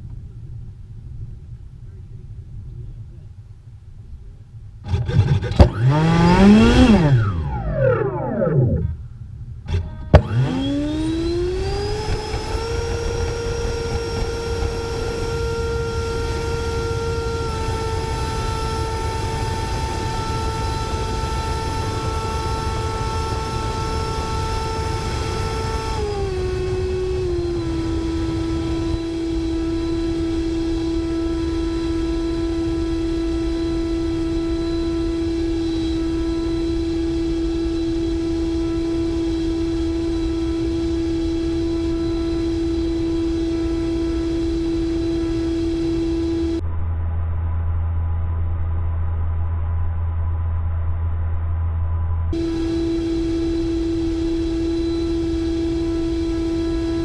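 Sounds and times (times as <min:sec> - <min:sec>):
electric fan whine: 0:00.0 - 0:57.0
wind rumble: 0:00.0 - 0:57.0.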